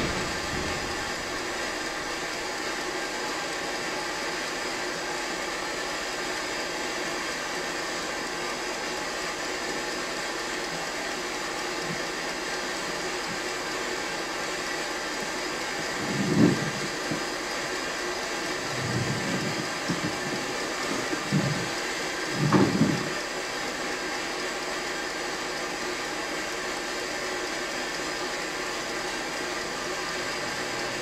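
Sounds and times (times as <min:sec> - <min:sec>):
machine hiss and hum: 0:00.0 - 0:31.0.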